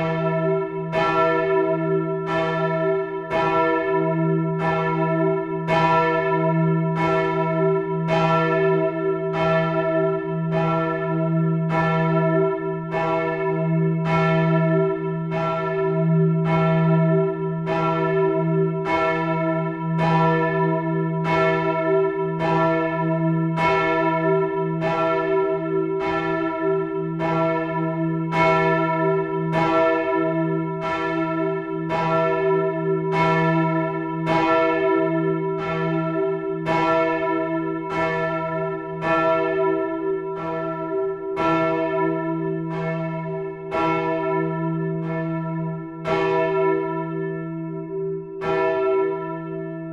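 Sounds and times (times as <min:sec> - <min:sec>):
church bell ringing: 0:00.0 - 0:49.9.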